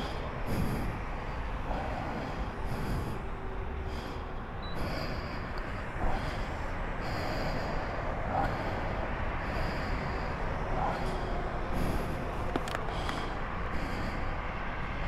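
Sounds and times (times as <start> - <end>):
person breathing close: 0.0 - 15.0
steady low rumble: 0.0 - 15.0.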